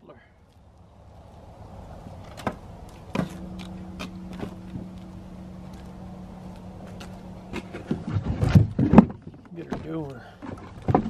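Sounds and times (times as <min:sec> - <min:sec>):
low background rumble: 0:00.0 - 0:11.0
steady low hum: 0:00.0 - 0:11.0.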